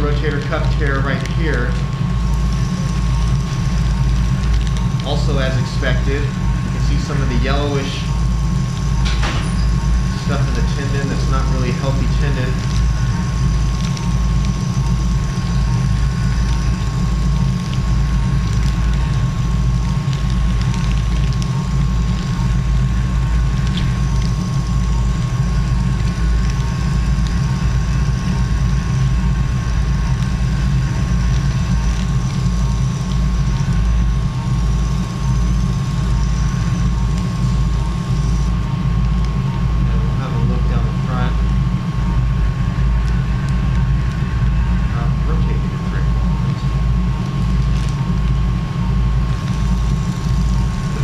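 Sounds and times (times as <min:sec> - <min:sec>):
constant high-pitched tone: 0:00.0 - 0:51.0
low equipment rumble: 0:00.0 - 0:51.0.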